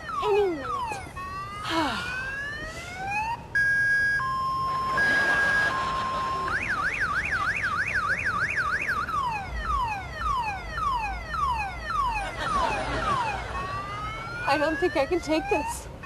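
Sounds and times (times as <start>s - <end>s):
car alarm siren: 0.0s - 16.0s.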